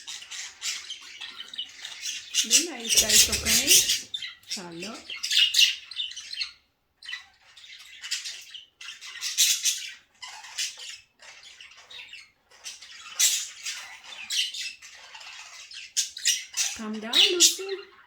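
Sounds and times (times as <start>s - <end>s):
budgies chattering and squawking: 0.0s - 18.0s.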